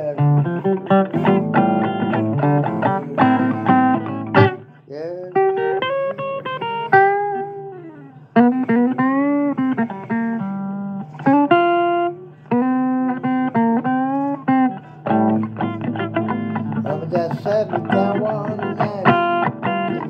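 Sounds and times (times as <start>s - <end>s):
blues guitar playing: 0.0s - 20.0s.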